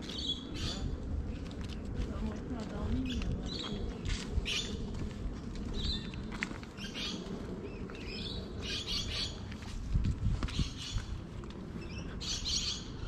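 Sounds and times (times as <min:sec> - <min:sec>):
birds chirping: 0:00.0 - 0:01.4, 0:02.8 - 0:09.5, 0:10.5 - 0:13.0
low rumble: 0:00.0 - 0:13.0.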